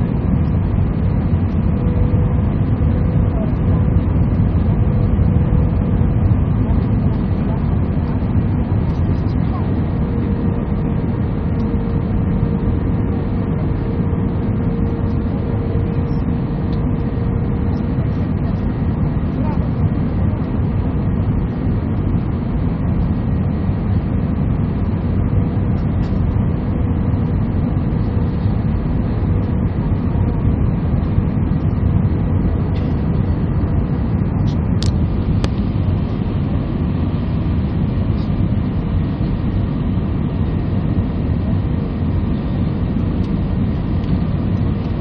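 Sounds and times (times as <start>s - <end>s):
airliner engines rumbling: 0.0s - 45.0s.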